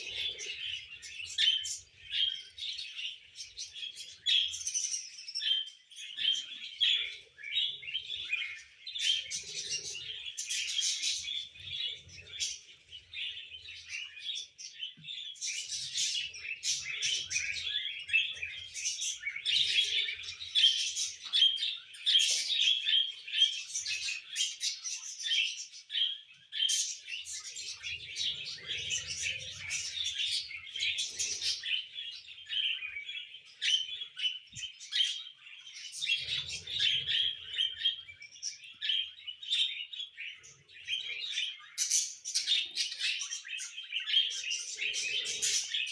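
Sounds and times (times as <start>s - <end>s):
parrots chirping and chattering: 0.0s - 45.9s.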